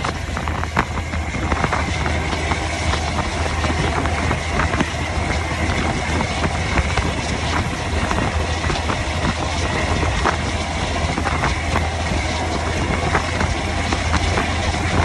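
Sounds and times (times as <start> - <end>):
diesel truck engine running: 0.0 - 15.0
road noise: 0.0 - 15.0
rushing wind: 0.0 - 15.0.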